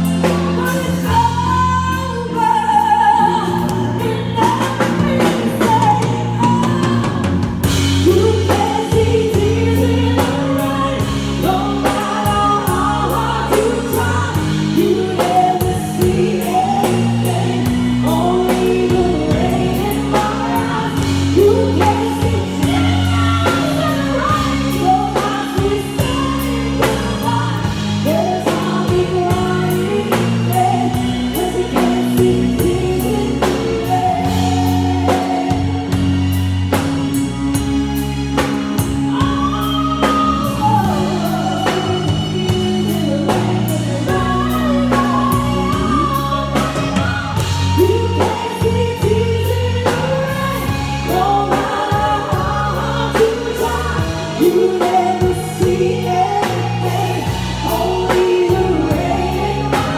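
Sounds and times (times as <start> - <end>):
rock band playing: 0.0 - 59.9
woman singing rock ballad: 0.0 - 59.9.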